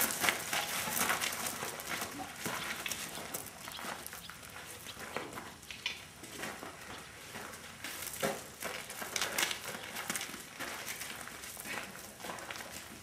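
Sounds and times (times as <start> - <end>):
donkey hooves on gravel: 0.0 - 13.0
footsteps on gravel: 0.0 - 13.0
scuffs on gravel: 0.0 - 13.0.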